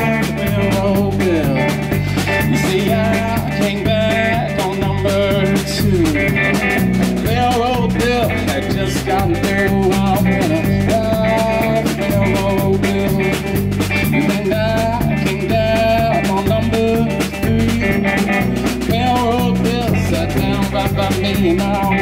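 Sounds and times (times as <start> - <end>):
drum kit steady beat: 0.0 - 22.0
electric bass: 0.0 - 22.0
electric guitar with bending notes: 0.0 - 22.0.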